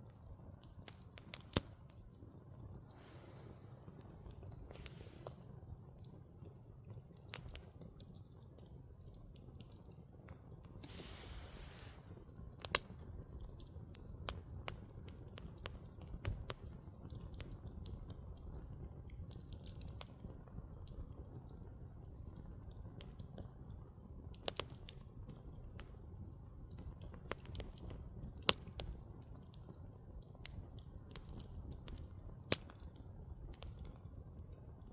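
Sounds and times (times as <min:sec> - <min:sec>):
firewood burning and crackling: 0:00.0 - 0:34.9.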